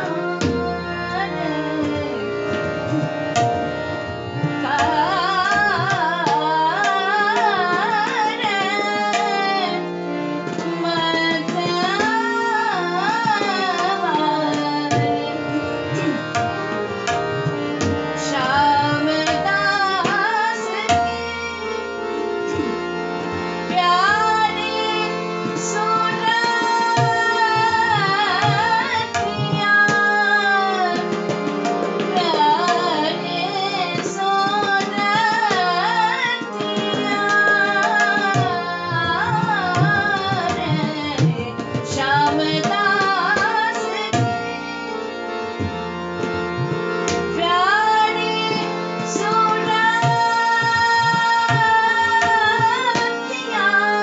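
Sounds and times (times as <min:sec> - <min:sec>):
woman singing: 0:00.0 - 0:02.5, 0:04.6 - 0:16.3, 0:17.8 - 0:22.8, 0:23.7 - 0:44.7, 0:47.1 - 0:54.0
held accompanying notes: 0:00.0 - 0:54.0.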